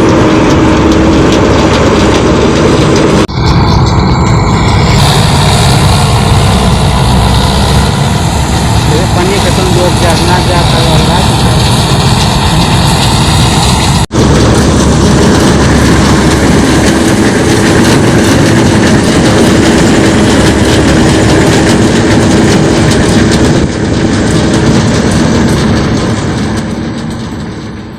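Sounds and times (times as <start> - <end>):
combine harvester engine droning: 0.0 - 27.9.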